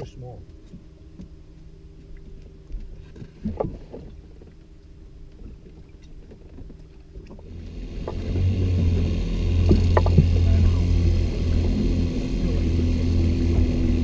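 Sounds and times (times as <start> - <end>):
outboard motor running: 0.0 - 14.0
water noise: 0.0 - 14.0.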